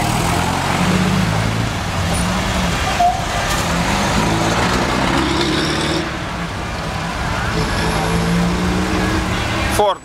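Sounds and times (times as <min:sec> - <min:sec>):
old car engines driving past: 0:00.0 - 0:10.0
street traffic: 0:00.0 - 0:10.0.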